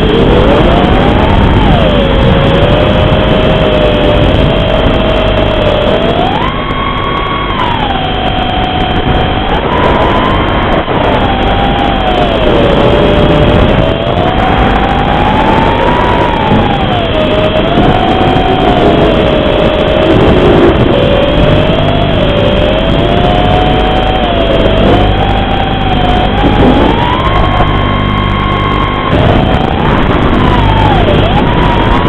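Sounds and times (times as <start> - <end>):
drone motors whining: 0.0 - 32.0.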